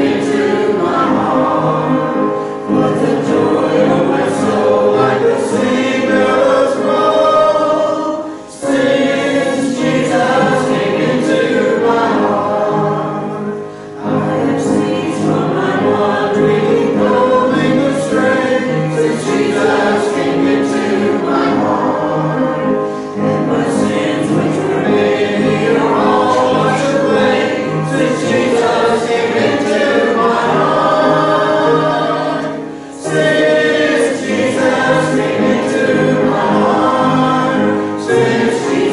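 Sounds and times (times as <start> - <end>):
voices singing a hymn: 0.0 - 38.9.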